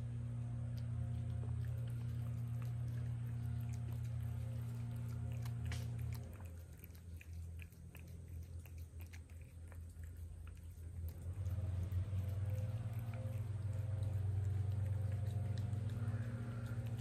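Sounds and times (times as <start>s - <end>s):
cats chewing: 0.0s - 17.0s.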